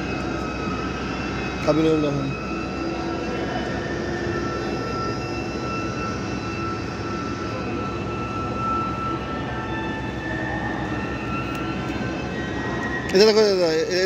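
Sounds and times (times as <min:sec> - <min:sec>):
machinery whining tones: 0:00.0 - 0:14.0.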